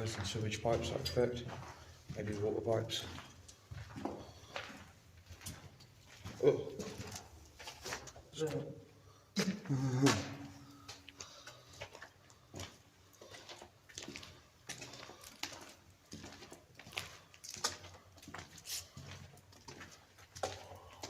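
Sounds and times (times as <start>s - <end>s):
footsteps crunching on gritty floor: 0.0s - 8.8s, 9.4s - 21.0s.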